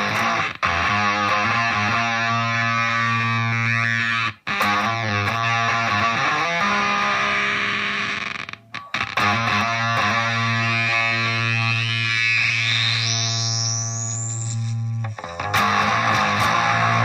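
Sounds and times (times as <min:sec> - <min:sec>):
fuzzed electric guitar low notes: 0:00.0 - 0:17.0.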